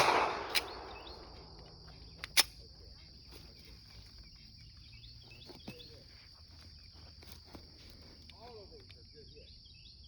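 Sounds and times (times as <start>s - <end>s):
faint chirps: 0.4s - 10.0s.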